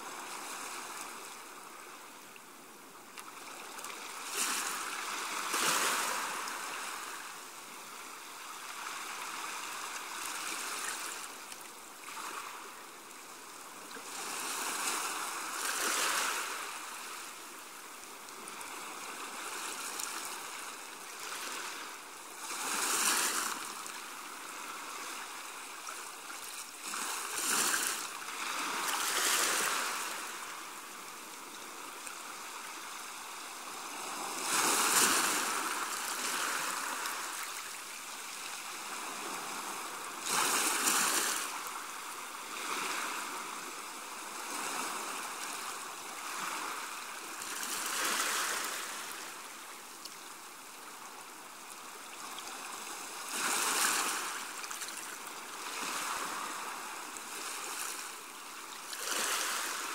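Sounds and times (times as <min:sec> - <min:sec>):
small waves washing onto shore: 0:00.0 - 0:59.9.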